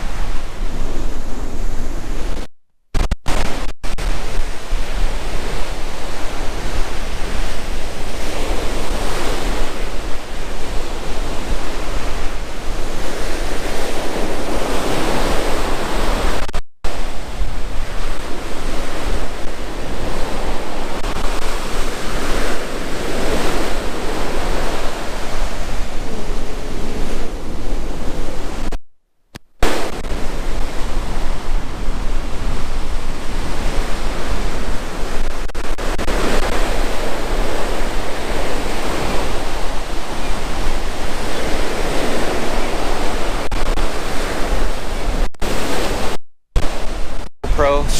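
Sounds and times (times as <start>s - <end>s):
ocean surf breaking: 0.0s - 28.8s, 29.6s - 47.9s.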